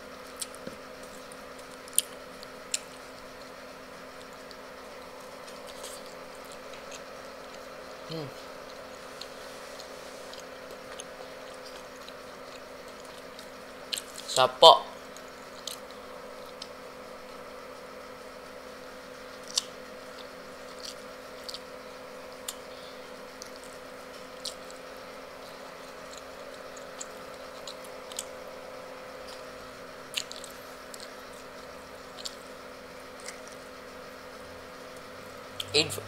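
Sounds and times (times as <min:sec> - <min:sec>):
faint background hum: 0:00.0 - 0:36.0.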